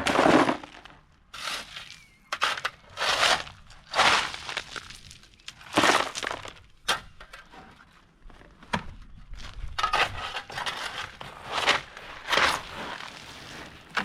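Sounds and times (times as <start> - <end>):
gravel crunching and clattering: 0.0 - 14.0.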